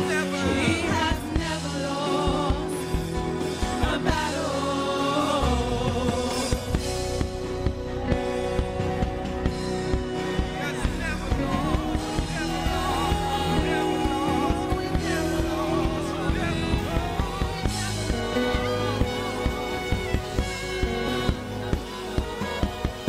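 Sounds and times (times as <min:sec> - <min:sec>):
people singing: 0:00.0 - 0:23.0
worship band playing: 0:00.0 - 0:23.0.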